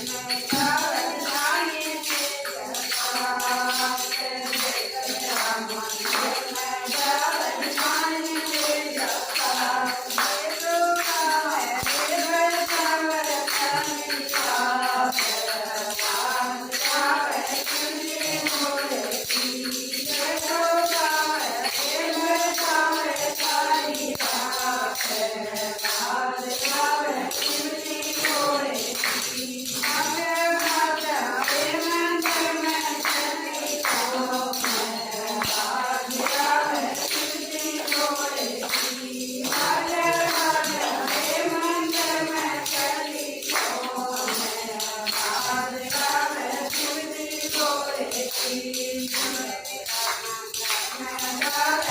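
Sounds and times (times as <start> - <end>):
jingling tambourine rhythm: 0.0 - 51.9
woman singing: 0.0 - 51.9.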